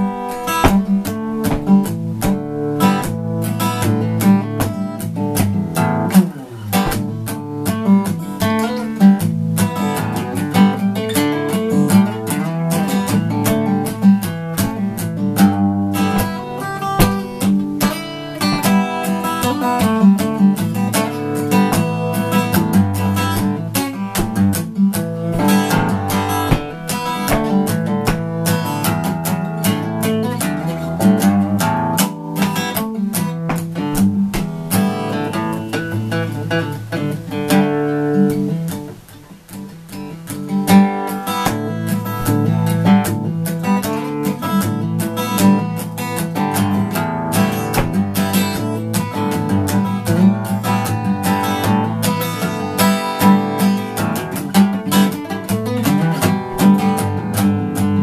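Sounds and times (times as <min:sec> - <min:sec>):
acoustic guitar picked and strummed: 0:00.0 - 0:58.0.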